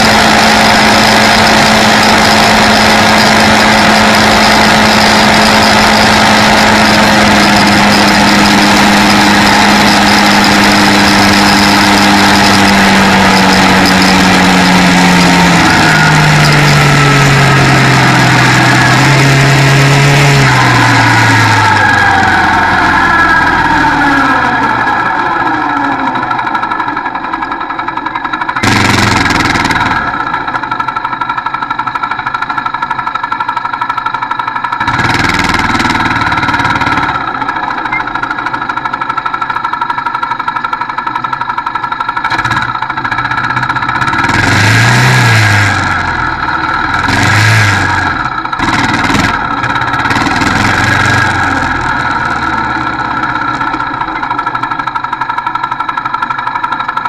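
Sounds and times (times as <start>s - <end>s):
quad bike engine droning: 0.0s - 57.0s.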